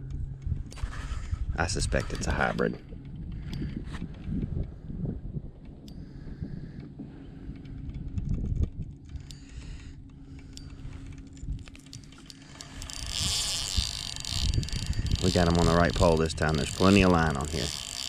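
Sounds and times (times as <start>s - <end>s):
sharp reel clicks: 0.0s - 4.7s, 5.6s - 18.0s
faint steady hum: 0.0s - 18.0s.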